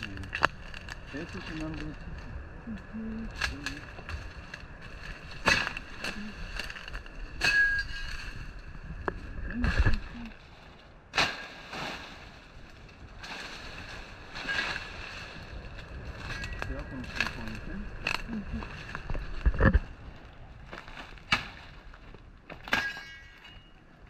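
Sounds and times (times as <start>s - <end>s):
footsteps on stones and leaves: 0.0s - 2.4s, 3.4s - 23.0s.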